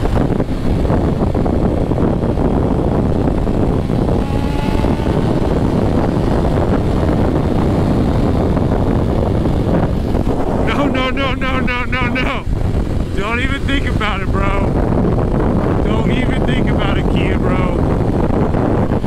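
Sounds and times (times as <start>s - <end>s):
motorcycle engine drone: 0.0s - 19.0s
wind rush on microphone: 0.0s - 19.0s.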